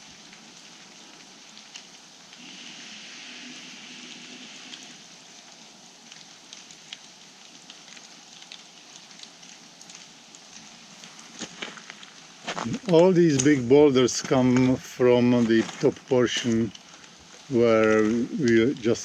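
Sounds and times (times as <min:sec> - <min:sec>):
raindrops ticking: 0:00.0 - 0:02.5, 0:04.0 - 0:19.0
light rain hissing: 0:00.0 - 0:19.0.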